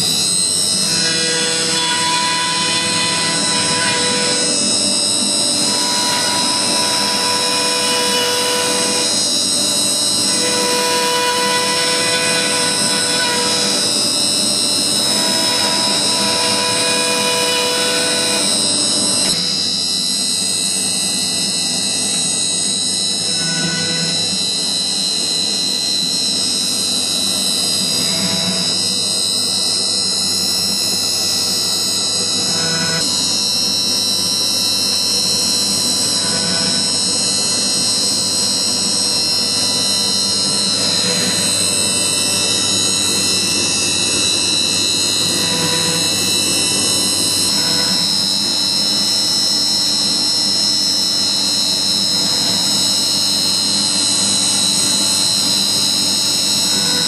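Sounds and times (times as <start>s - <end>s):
router spindle whine: 0.0s - 57.0s.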